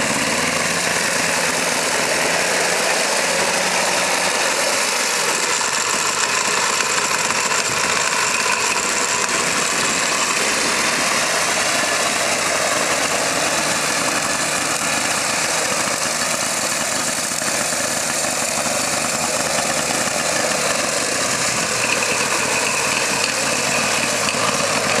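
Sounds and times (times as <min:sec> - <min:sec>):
mini tractor engine running: 0:00.0 - 0:25.0.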